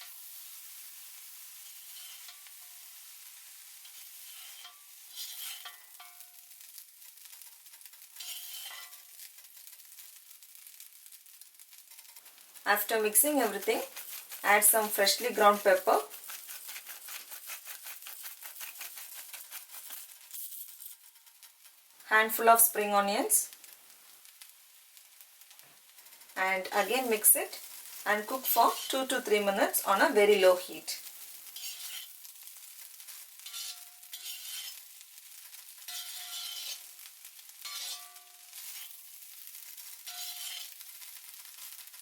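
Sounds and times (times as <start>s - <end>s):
spatula scraping a pan: 0.0s - 22.6s, 25.0s - 42.0s
light sizzle: 0.0s - 42.0s.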